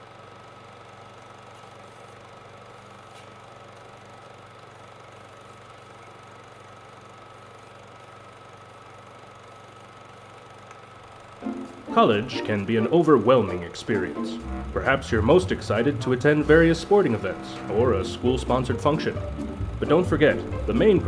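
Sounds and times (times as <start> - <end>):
film projector running: 0.0 - 21.0.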